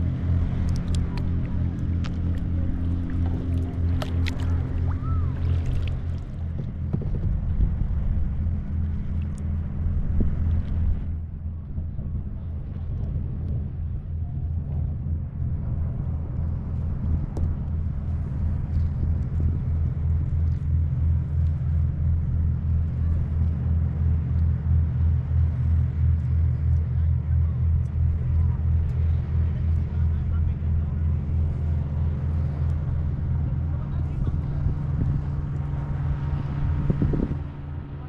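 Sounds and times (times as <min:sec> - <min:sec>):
pulsing low rumble: 0:00.0 - 0:38.0.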